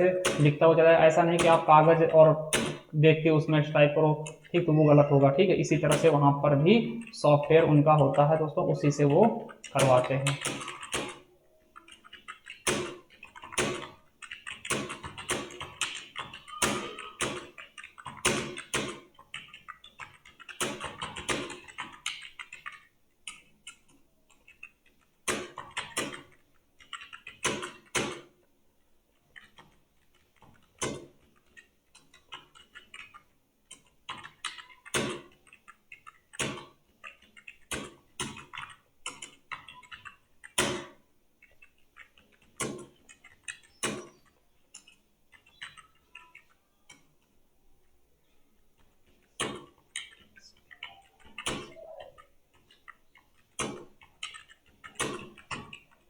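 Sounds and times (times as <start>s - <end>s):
typing on computer keyboard: 0.0s - 47.8s, 48.7s - 56.0s.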